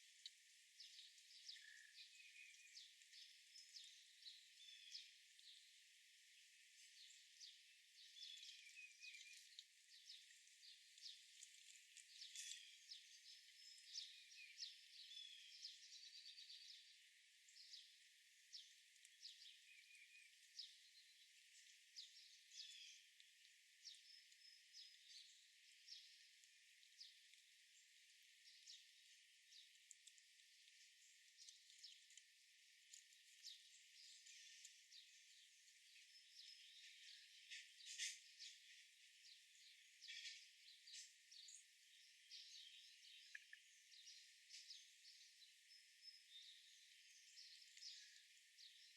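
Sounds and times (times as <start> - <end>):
songbirds chirping and trilling: 0.0 - 48.9.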